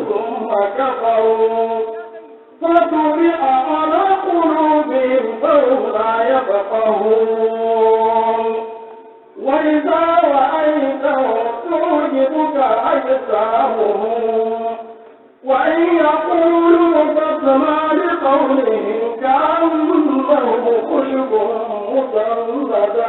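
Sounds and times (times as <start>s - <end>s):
person chanting: 0.0s - 23.0s.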